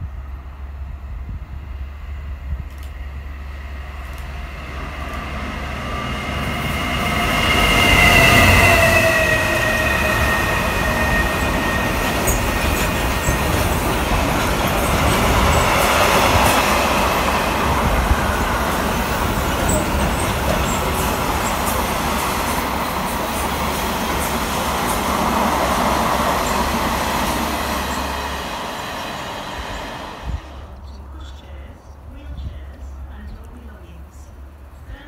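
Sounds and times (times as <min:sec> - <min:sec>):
diesel locomotive passing: 0:00.0 - 0:34.8.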